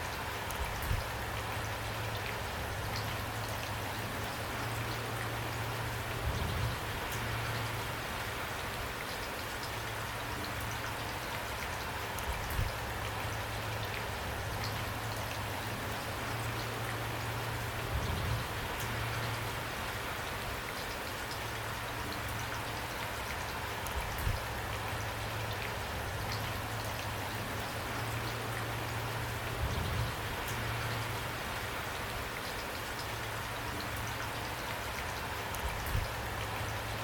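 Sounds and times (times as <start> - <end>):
raindrops ticking on a surface: 0.0 - 37.0
steady rain hiss: 0.0 - 37.0.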